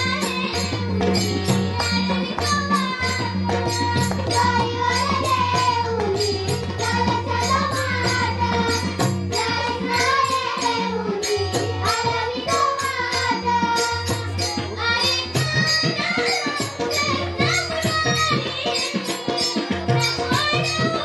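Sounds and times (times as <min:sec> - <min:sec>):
percussion strokes: 0:00.0 - 0:21.0.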